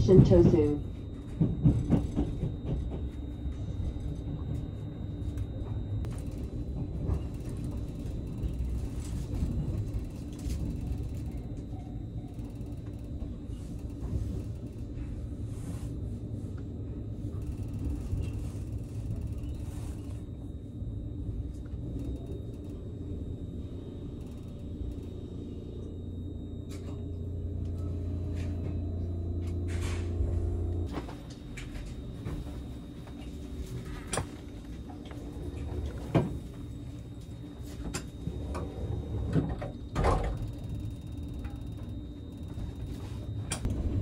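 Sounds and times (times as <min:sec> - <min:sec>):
train equipment hum: 0:00.0 - 0:44.0.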